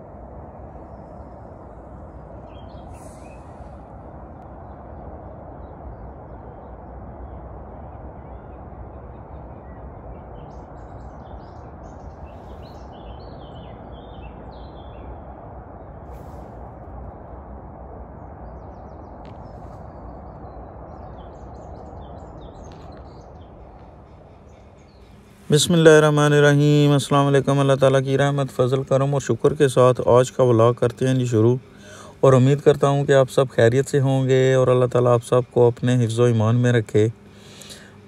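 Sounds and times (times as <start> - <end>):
low outdoor rumble: 0.0 - 38.0
birds chirping: 0.6 - 16.0, 18.2 - 38.0.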